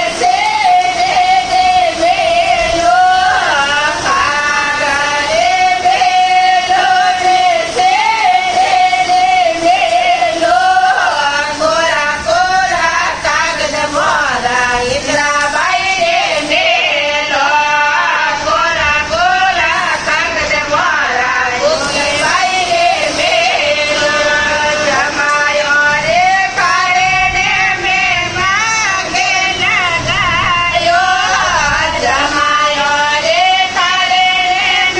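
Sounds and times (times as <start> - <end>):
person singing long wavering notes: 0.0 - 34.9.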